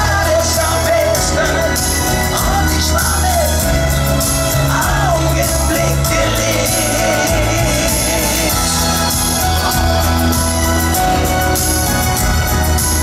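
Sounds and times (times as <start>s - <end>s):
bass beat: 0.0s - 13.0s
live band playing: 0.0s - 13.0s.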